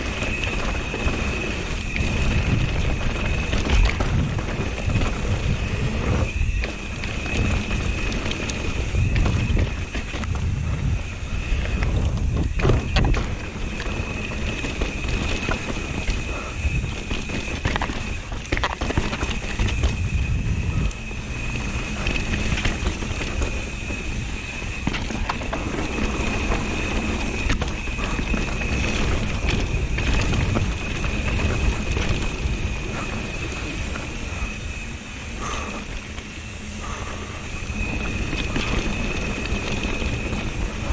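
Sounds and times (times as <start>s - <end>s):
bike rattling over bumps: 0.0s - 40.9s
bike tyres rolling on dirt: 0.0s - 40.9s
steady high-pitched whine: 0.0s - 40.9s
wind buffeting microphone: 0.0s - 40.9s.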